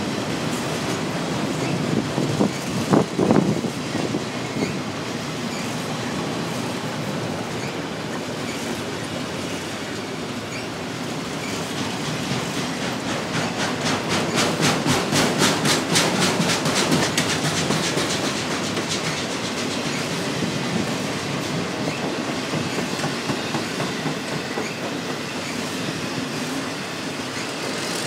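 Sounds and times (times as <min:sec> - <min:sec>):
steel wheels rumbling on rail: 0:00.0 - 0:28.0
wheels clickety-clack on rail joints: 0:00.0 - 0:28.0.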